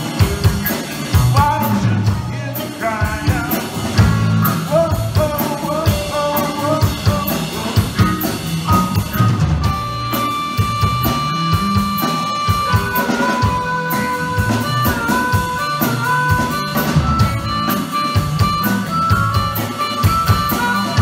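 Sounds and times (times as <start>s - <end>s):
drum kit beat: 0.0s - 21.0s
electric guitar riff: 0.0s - 21.0s
harmonica notes: 0.0s - 21.0s.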